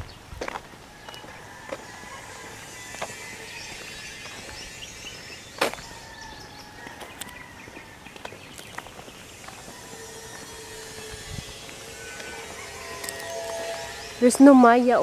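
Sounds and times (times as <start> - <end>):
outdoor background noise: 0.0 - 15.0
footsteps on concrete: 0.4 - 13.8.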